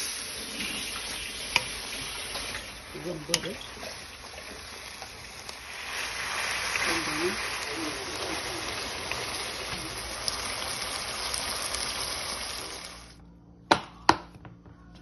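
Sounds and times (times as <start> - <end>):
pork sizzling in a hot pan: 0.0 - 13.2.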